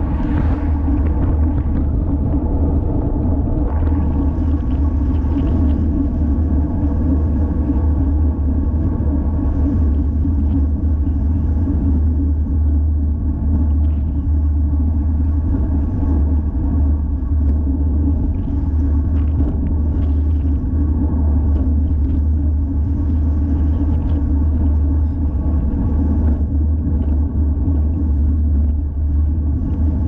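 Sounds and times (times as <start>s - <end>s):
bicycle road noise: 0.0s - 30.0s
loud wind rumble on microphone: 0.0s - 30.0s.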